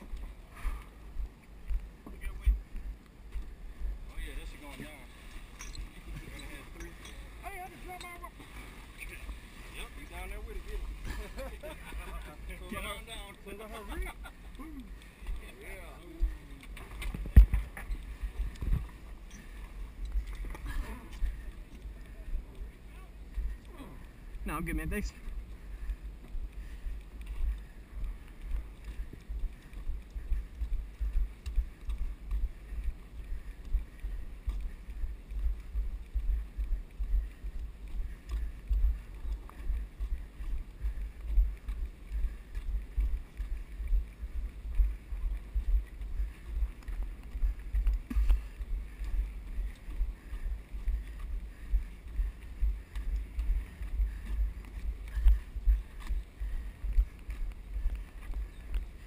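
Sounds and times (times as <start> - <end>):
footsteps on wooden dock: 0.0 - 59.0
wind rumbling on microphone: 0.0 - 59.0.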